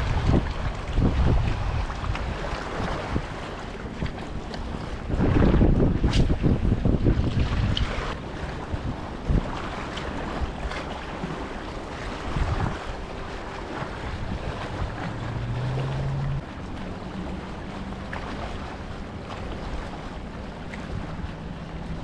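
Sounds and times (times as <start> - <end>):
waves lapping shoreline: 0.0 - 22.0
wind buffeting microphone: 0.0 - 22.0.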